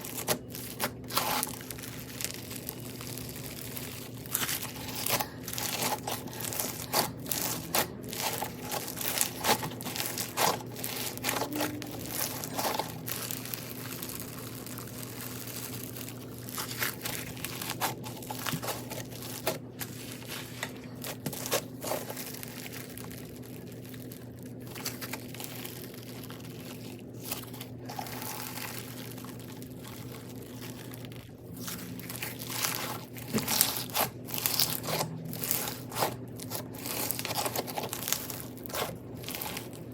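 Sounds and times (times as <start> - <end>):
crunchy slime crackling: 0.0 - 39.9.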